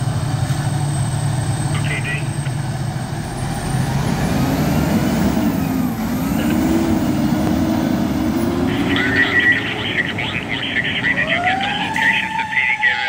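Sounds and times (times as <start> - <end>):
fire engine diesel engine accelerating: 0.0 - 13.0.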